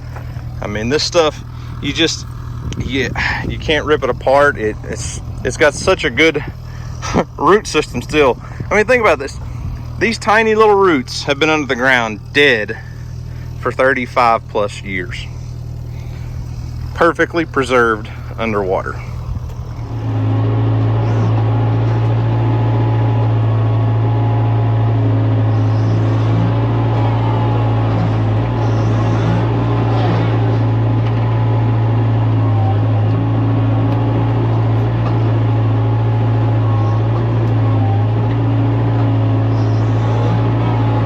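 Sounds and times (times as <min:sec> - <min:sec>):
heavy machine engine humming: 0:00.0 - 0:41.0.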